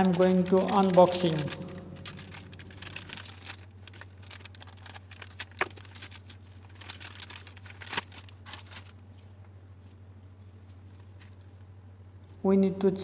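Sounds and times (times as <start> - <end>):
packaging crinkling and rustling: 0.0 - 11.7.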